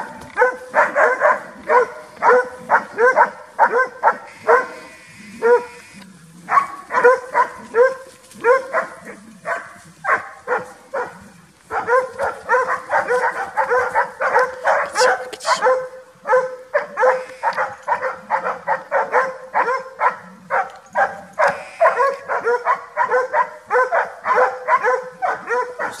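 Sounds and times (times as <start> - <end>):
dogs barking rapidly: 0.0 - 26.0.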